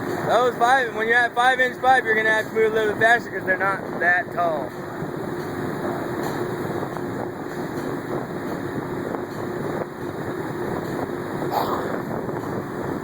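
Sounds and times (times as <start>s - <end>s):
drilling rig machinery drone: 0.0s - 13.0s.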